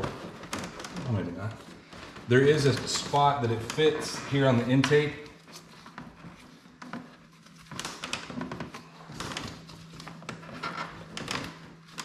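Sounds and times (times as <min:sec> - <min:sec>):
plastic parts clicking and creaking: 0:00.0 - 0:12.0.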